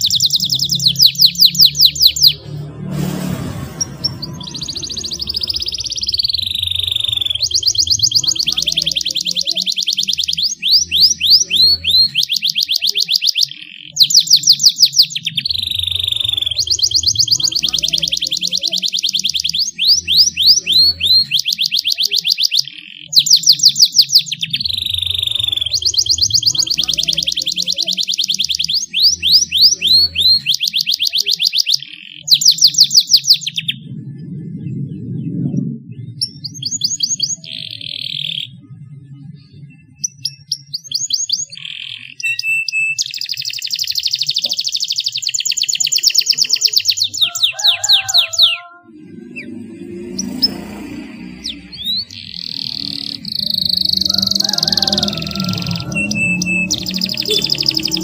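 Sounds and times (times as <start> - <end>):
canary singing trills: 0.0 - 2.6, 3.8 - 58.0.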